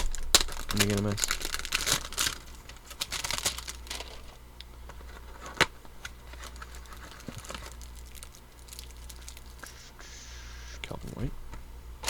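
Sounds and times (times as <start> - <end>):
cards rustling and clicking: 0.0 - 10.3
steady low hum: 0.0 - 12.0.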